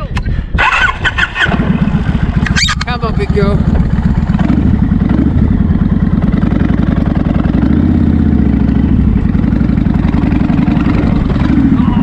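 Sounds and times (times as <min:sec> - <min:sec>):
motorcycle engine pulling hard: 0:00.6 - 0:12.0.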